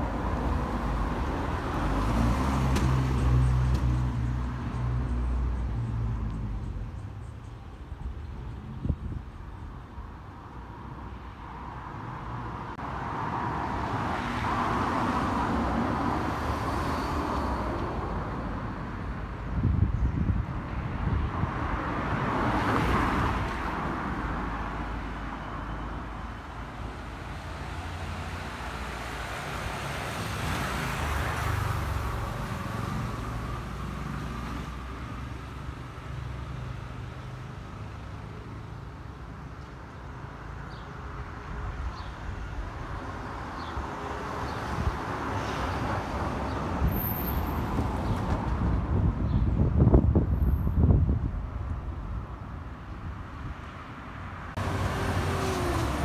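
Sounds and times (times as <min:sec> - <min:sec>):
cars passing: 0:00.0 - 0:56.0
low traffic rumble: 0:00.0 - 0:56.0.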